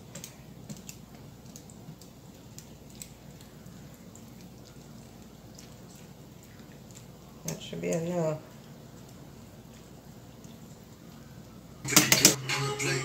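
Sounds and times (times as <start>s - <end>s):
spatula stirring wet food: 0.0s - 12.4s.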